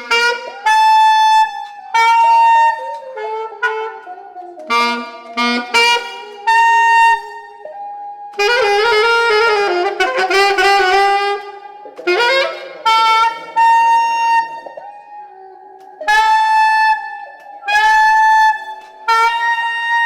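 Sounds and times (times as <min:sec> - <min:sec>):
saxophone playing held notes: 0:00.0 - 0:20.0.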